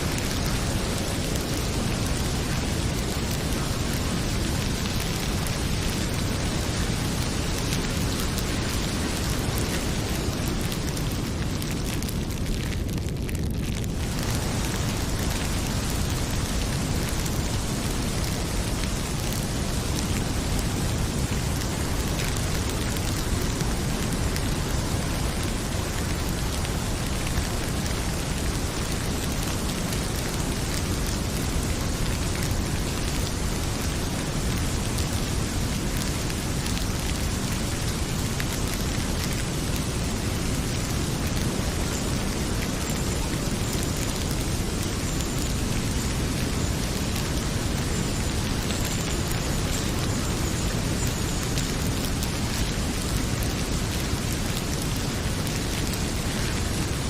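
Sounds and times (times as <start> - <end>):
heavy rain pouring: 0.0 - 57.0
wood fire crackling: 0.0 - 57.0.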